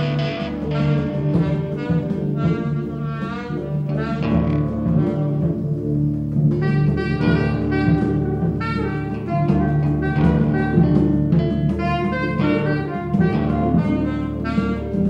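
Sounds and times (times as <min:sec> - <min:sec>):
reed instrument phrases: 0:00.0 - 0:15.0.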